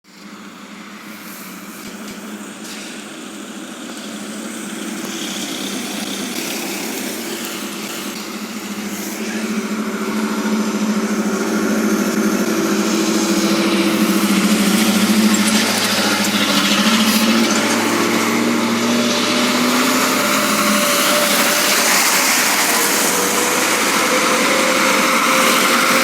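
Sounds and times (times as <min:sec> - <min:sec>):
fire truck engines running: 0:00.1 - 0:26.0.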